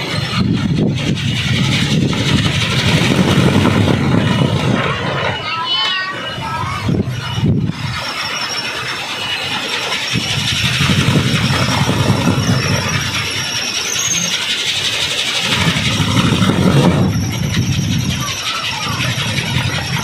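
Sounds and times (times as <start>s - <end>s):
wind propeller whirring: 0.0s - 20.0s.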